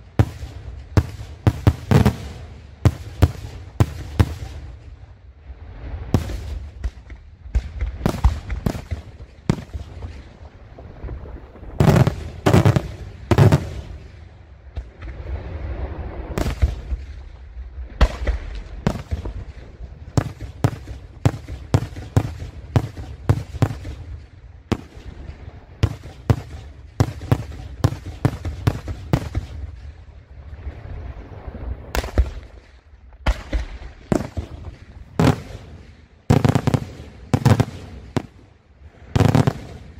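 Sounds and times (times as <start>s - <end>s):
fireworks bangs: 0.0s - 4.8s, 6.0s - 15.5s, 16.3s - 29.8s, 31.9s - 39.9s
fireworks rumble: 0.0s - 39.9s.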